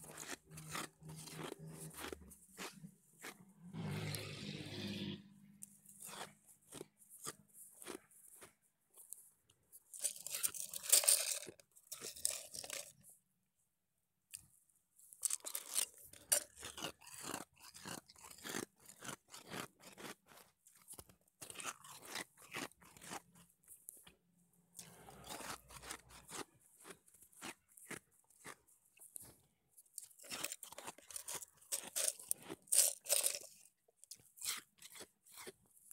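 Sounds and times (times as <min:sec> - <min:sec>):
ice being chewed: 0:00.0 - 0:13.1, 0:14.3 - 0:35.9.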